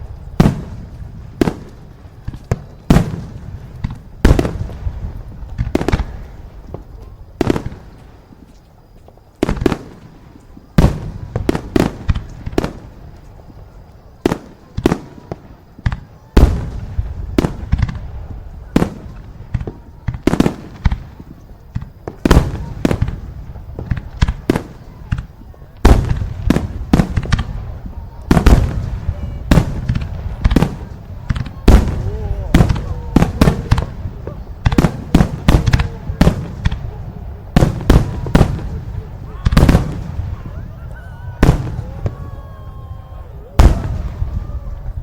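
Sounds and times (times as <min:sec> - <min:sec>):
fireworks exploding: 0:00.0 - 0:45.0.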